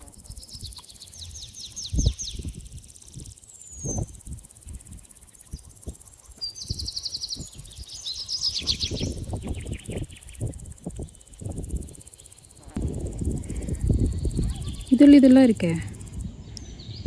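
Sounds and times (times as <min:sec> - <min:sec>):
forest birds calling: 0:00.0 - 0:17.0.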